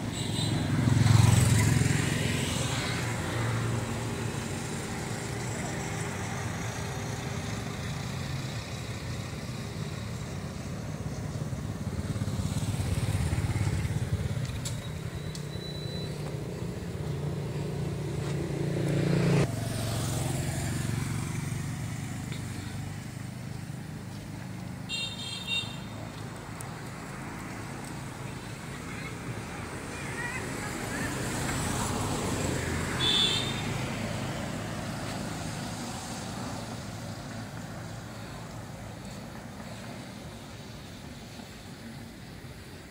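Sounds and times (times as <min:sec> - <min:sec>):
motorcycle engine rumbling: 0:00.0 - 0:41.6.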